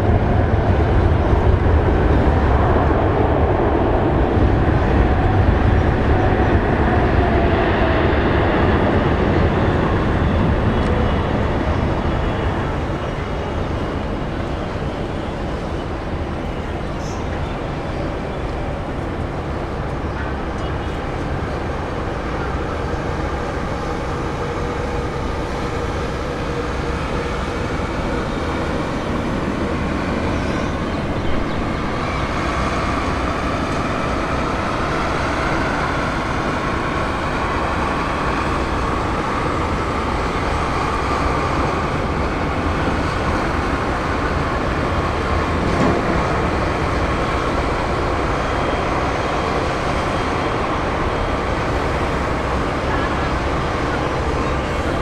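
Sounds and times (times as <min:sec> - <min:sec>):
jet engine whine: 0:00.0 - 0:55.0
jet engines rumbling: 0:00.0 - 0:55.0.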